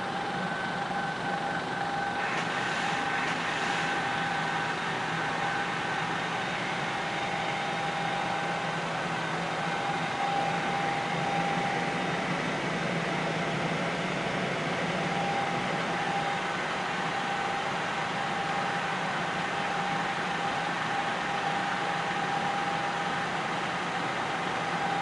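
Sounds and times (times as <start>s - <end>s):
constant held tones: 0.0s - 25.0s
helicopter engine and rotor drone: 0.0s - 25.0s.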